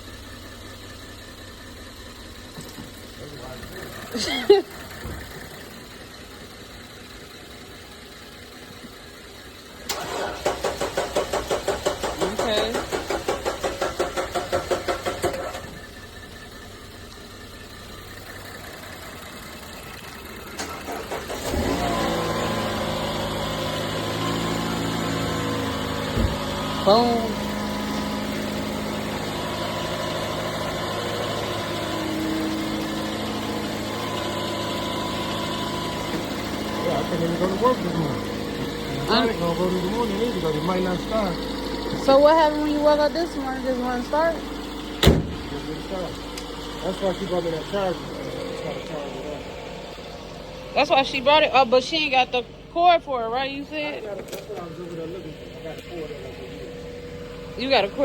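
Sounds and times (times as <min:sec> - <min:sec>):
starter cranking car engine: 0:00.0 - 0:58.0.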